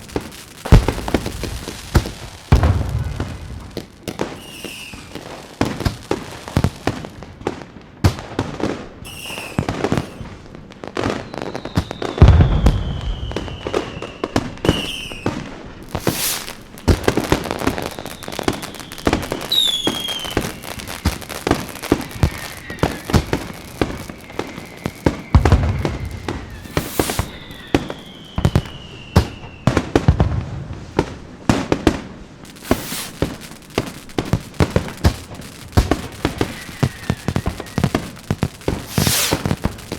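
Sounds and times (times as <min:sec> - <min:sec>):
whistling rockets: 0:00.0 - 0:07.2, 0:08.6 - 0:39.9
fireworks booms: 0:00.0 - 0:39.9
fireworks crackling and popping: 0:00.0 - 0:39.9.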